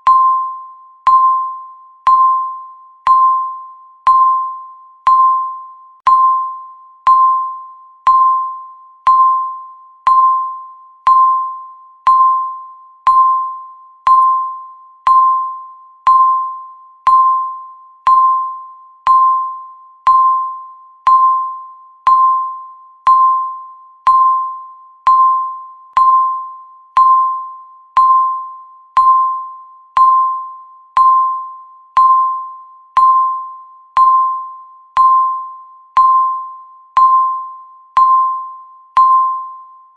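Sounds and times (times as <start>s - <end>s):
countdown timer beeping: 0.0s - 39.7s.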